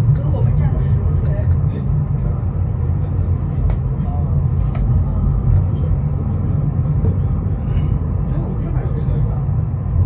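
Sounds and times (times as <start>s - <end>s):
funicular car rumbling on track: 0.0s - 10.0s.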